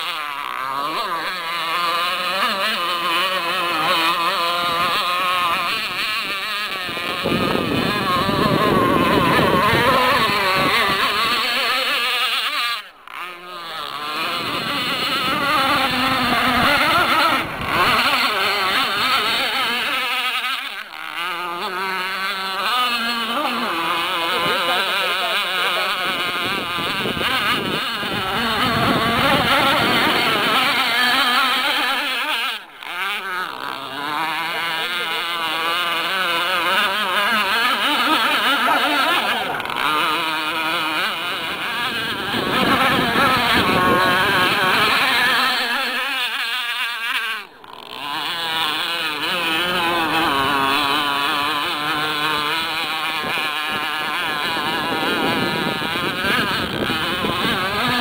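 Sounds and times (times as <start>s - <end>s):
model speedboat engine at high revs: 0.0s - 58.0s.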